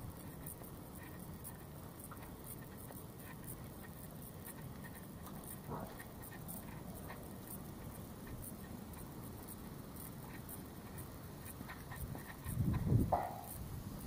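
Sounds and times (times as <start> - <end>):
faint footsteps walking: 0.0 - 13.7
low outdoor background rumble: 0.0 - 14.0.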